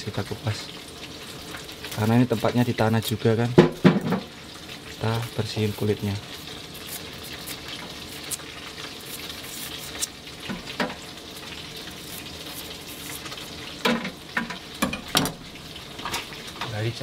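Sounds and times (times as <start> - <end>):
fish sizzling in a pan: 0.0 - 17.0.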